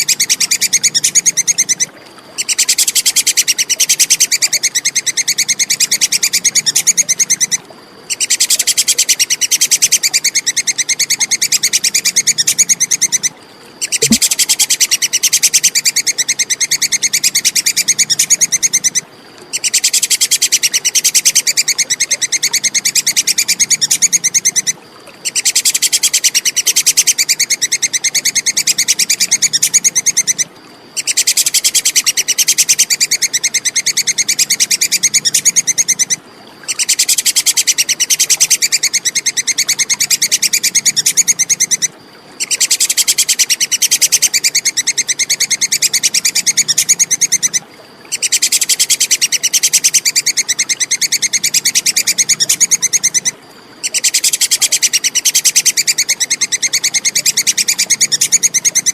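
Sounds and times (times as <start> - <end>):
squirrel chattering call: 0.0 - 30.4, 31.0 - 58.9.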